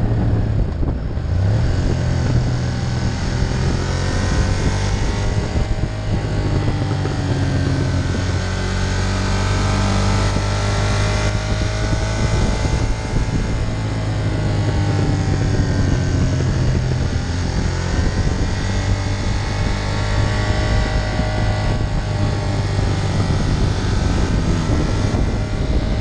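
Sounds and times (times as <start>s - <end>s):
motorcycle engine running: 0.0s - 26.0s
wind noise: 0.0s - 26.0s.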